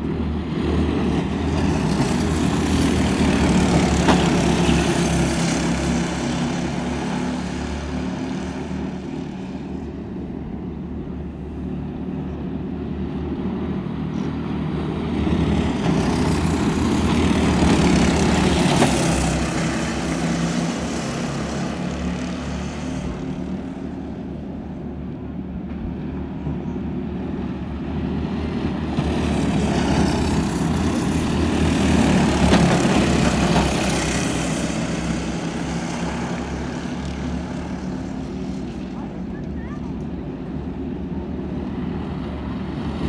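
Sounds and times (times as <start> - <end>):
go-kart engines buzzing: 0.0 - 43.0.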